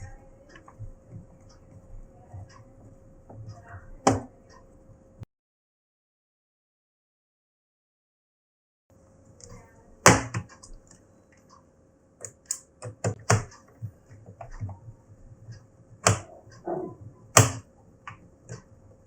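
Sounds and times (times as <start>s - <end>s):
faint electrical hum: 0.0s - 5.3s, 8.9s - 19.0s.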